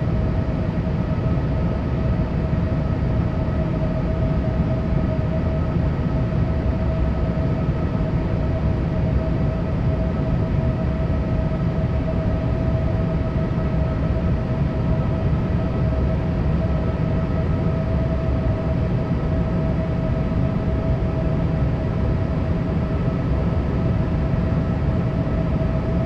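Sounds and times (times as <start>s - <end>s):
airliner cabin rumble and air rush: 0.0s - 26.0s
steady whine: 0.0s - 26.0s.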